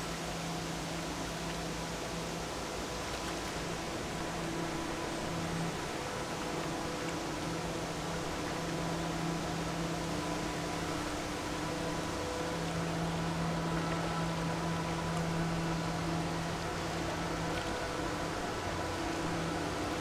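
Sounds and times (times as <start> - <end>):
ship engine drone: 0.0 - 20.0.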